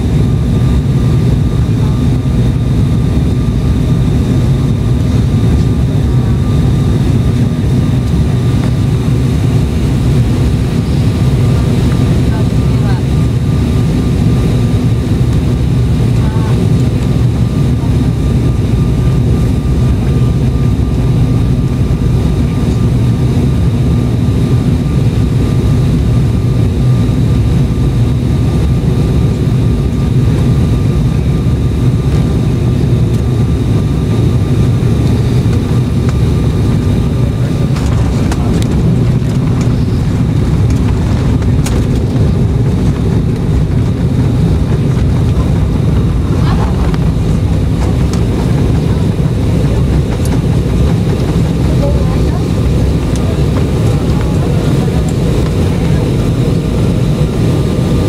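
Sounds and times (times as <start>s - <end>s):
faint steady whine: 0.0s - 58.0s
jet engine rumble in cabin: 0.0s - 58.0s.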